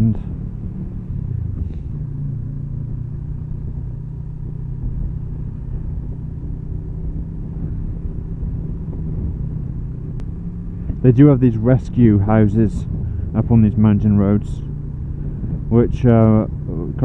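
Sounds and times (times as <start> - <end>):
motorcycle engine at low revs: 0.0 - 17.0
road and wind rumble: 0.0 - 17.0.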